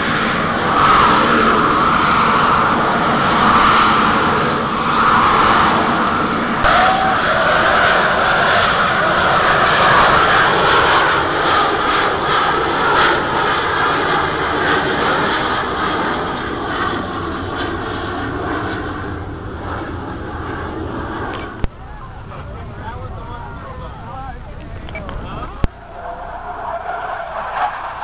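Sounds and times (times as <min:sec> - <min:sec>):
jet aircraft flying past: 0:00.0 - 0:28.0.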